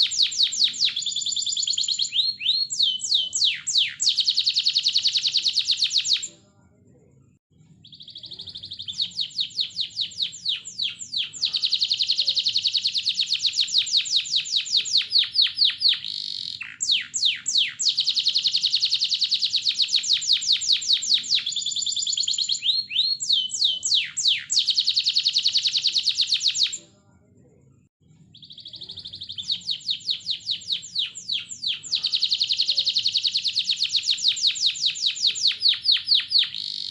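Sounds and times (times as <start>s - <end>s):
canary singing: 0.0s - 6.3s, 7.7s - 26.8s, 28.2s - 36.9s.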